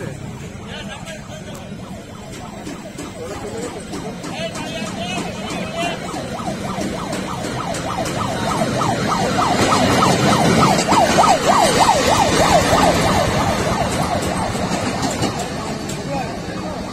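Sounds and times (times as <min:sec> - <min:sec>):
railway trolley passing: 0:00.0 - 0:16.9
warning siren yelping: 0:00.6 - 0:16.9.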